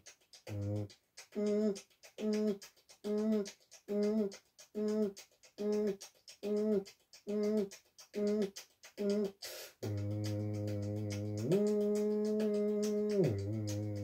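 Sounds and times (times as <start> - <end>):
beatboxing hummed note: 0.0 - 14.0
faint mouth clicks: 0.0 - 14.0.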